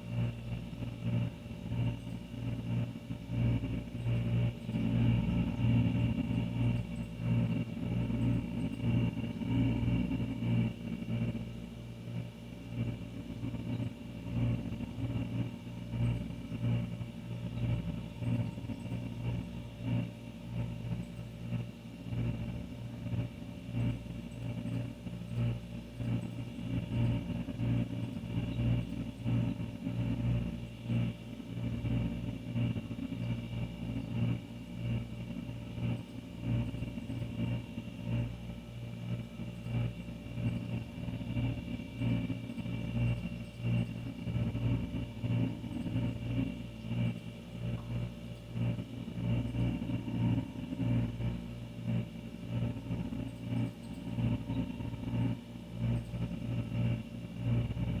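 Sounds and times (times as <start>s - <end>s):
refrigerator compressor hum: 0.0s - 58.0s.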